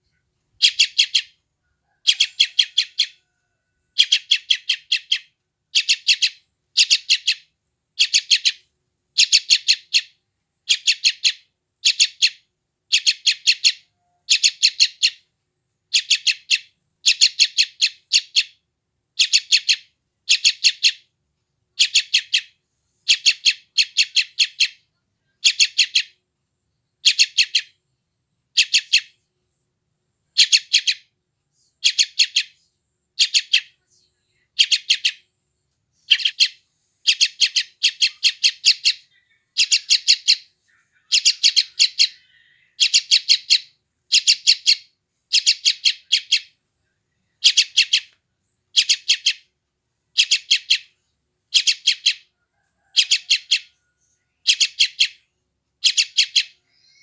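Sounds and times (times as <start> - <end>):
bird chick chattering calls: 0.6 - 8.6, 9.2 - 15.2, 15.9 - 18.6, 19.2 - 21.1, 21.8 - 26.2, 27.0 - 27.8, 28.5 - 29.2, 30.3 - 31.1, 31.8 - 32.6, 33.2 - 33.8, 34.5 - 35.2, 36.0 - 46.6, 47.4 - 49.5, 50.1 - 57.0.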